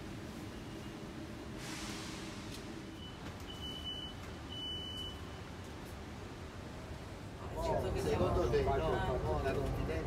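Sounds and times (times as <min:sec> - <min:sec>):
low rumble of train: 0:00.0 - 0:10.0.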